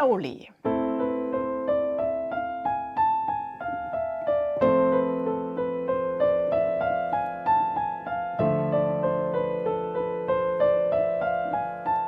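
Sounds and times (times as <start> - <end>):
piano scale over chords: 0.6 - 12.0.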